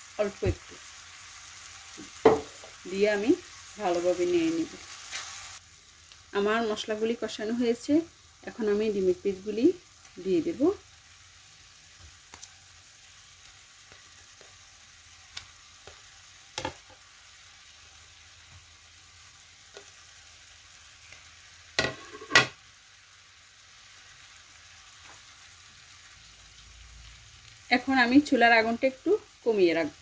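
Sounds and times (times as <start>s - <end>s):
masala sizzling in a frying pan: 0.0s - 30.0s.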